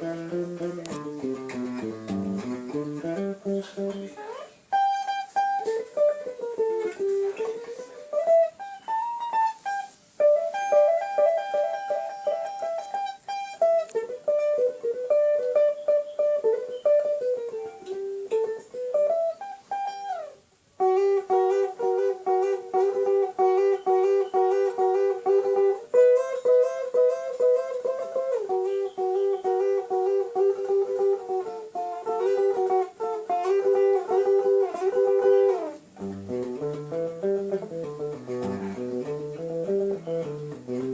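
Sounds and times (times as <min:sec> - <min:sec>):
plucked string instrument melody: 0:00.0 - 0:40.9.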